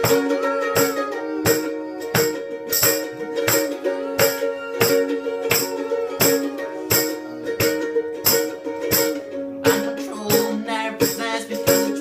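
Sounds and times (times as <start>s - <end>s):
live instrumental band music: 0.0s - 10.7s.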